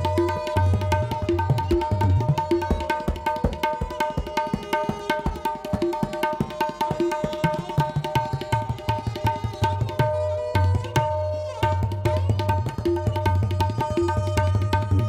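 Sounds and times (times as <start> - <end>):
tabla ringing strokes: 0.0 - 15.0.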